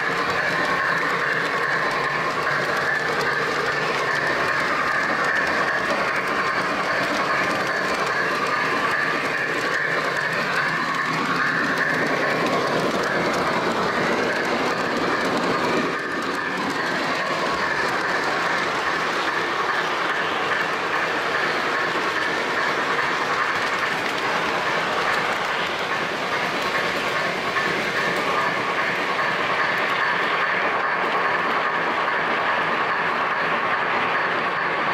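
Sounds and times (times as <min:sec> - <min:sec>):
model train wheels clicking: 0:00.0 - 0:34.9.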